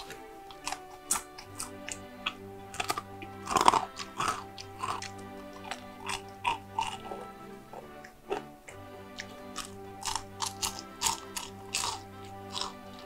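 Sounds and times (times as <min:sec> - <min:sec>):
background music: 0:00.0 - 0:13.0
crunching and chewing fried food: 0:00.0 - 0:13.0.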